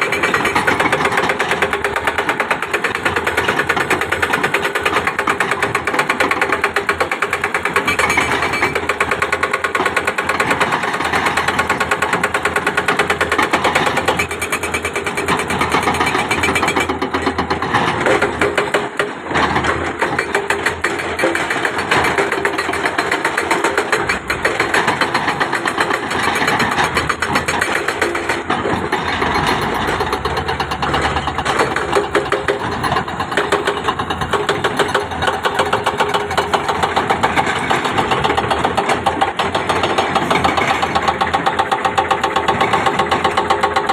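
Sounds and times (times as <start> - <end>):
excavator diesel engine chattering: 0.0 - 18.7, 19.5 - 43.9.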